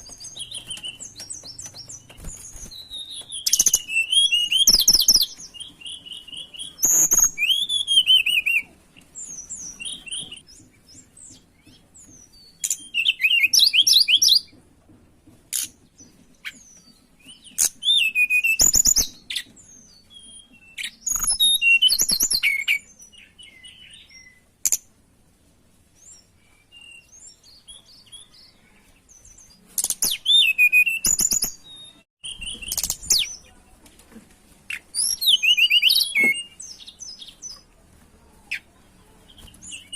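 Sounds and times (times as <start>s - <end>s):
bird singing warbled phrases: 0.0s - 14.6s, 15.5s - 24.9s, 25.9s - 33.8s, 34.6s - 39.9s.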